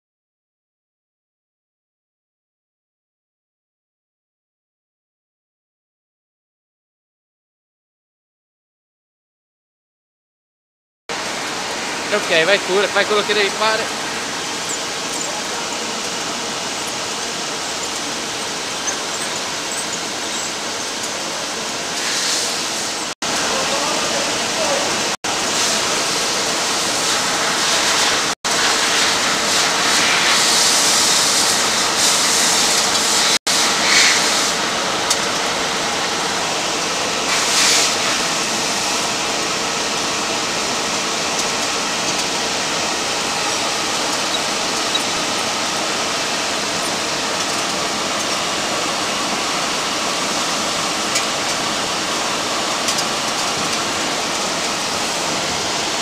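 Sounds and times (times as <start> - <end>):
grinder grinding hiss: 11.1 - 56.0.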